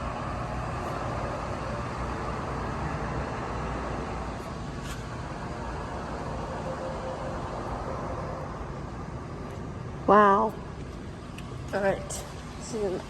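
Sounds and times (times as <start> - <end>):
electric motor and pump humming: 0.0 - 13.0.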